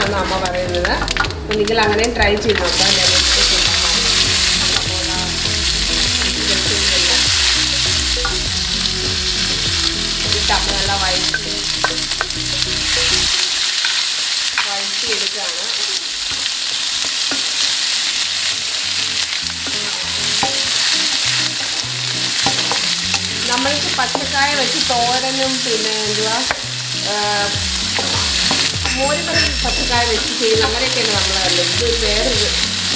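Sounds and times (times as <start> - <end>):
food sizzling in hot oil: 0.0 - 32.9.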